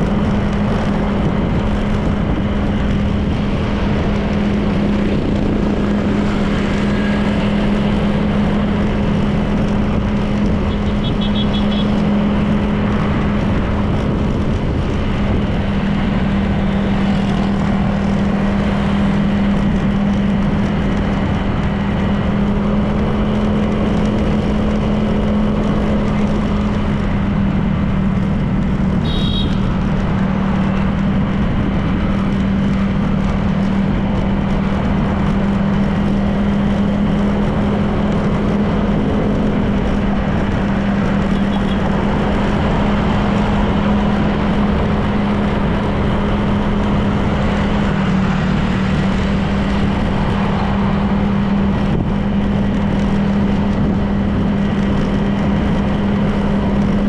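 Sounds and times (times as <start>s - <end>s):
scooter engine cruising: 0.0s - 57.0s
wind and road noise: 0.0s - 57.0s.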